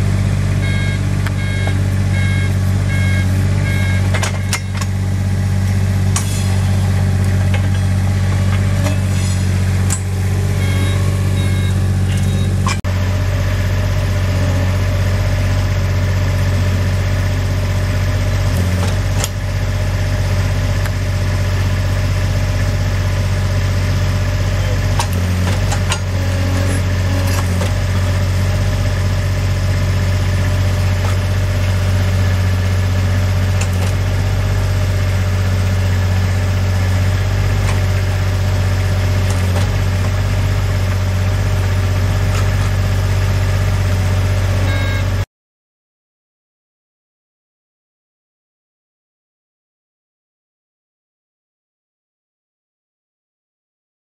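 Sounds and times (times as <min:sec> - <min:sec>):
loader engine running: 0:00.0 - 0:45.3.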